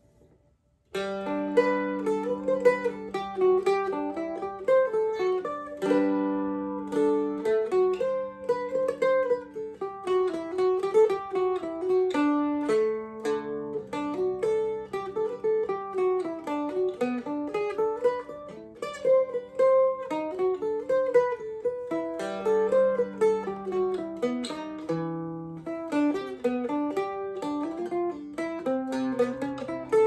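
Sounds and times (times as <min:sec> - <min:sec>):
mandolin played with a pick: 0:00.0 - 0:30.0.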